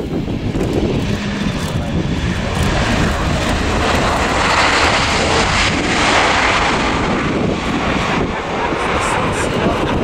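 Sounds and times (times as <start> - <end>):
jet engine roar: 0.0 - 10.0.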